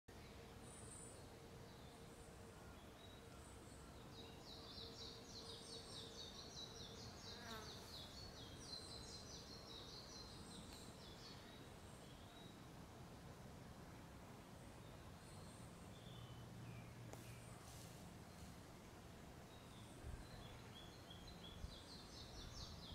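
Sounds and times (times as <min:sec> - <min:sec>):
small songbird singing: 0:00.1 - 0:12.7, 0:14.8 - 0:18.6, 0:19.4 - 0:22.9.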